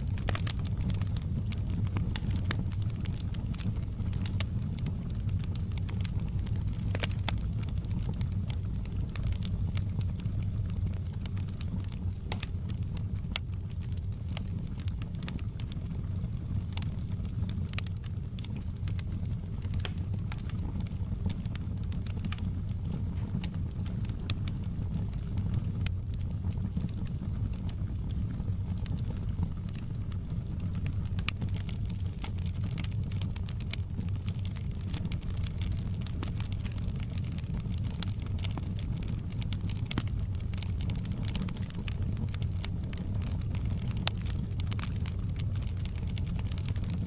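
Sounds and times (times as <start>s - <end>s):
fire flame rumble: 0.0s - 47.0s
logs crackling and popping: 0.0s - 47.0s.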